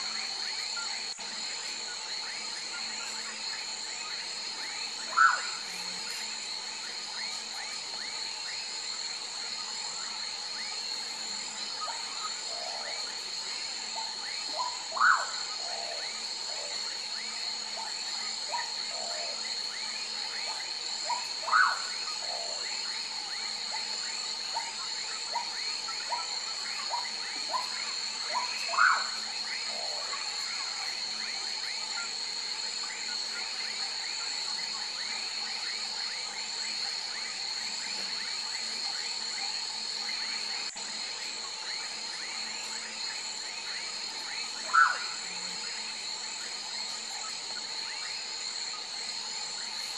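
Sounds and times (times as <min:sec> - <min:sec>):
frogs chirping: 0:00.0 - 0:49.9.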